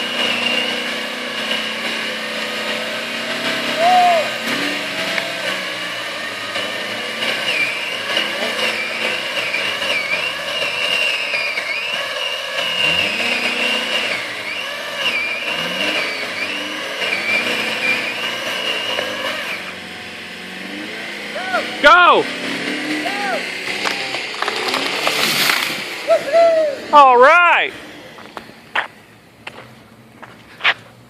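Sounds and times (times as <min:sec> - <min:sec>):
chainsaw cutting: 0:00.0 - 0:29.6.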